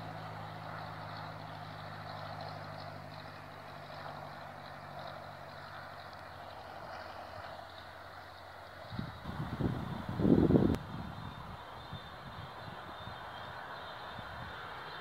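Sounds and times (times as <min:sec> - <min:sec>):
distant propeller aircraft droning: 0:00.0 - 0:15.0
open-air hiss: 0:00.0 - 0:15.0.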